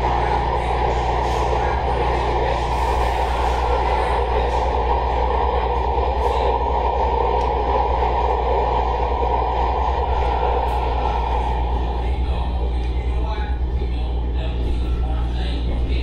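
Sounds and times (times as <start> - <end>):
low steady hum: 0.0 - 16.0
train wheel and rail noise: 0.0 - 16.0.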